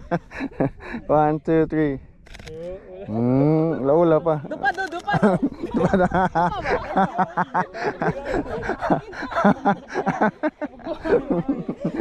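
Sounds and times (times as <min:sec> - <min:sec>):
people talking and chuckling: 0:00.0 - 0:01.4, 0:02.5 - 0:12.0.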